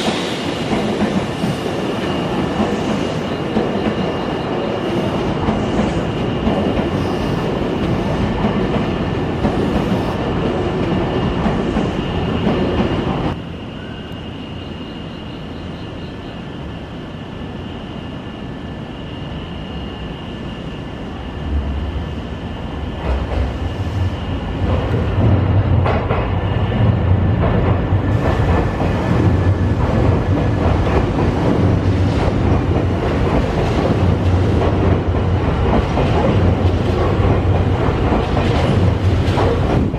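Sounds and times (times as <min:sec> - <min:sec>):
train low rumble: 0:00.0 - 0:39.9.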